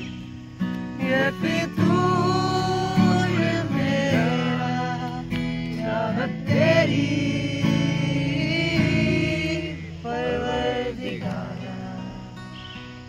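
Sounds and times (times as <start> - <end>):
acoustic guitar: 0.0 - 13.0
group singing: 1.0 - 12.5.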